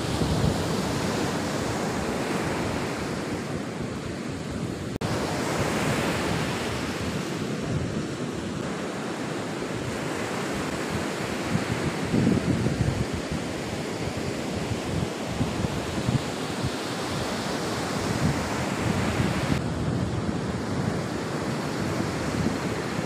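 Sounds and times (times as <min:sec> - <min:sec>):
wind on the microphone: 0:00.0 - 0:08.8, 0:09.5 - 0:23.0
waves washing up a beach: 0:00.0 - 0:23.0.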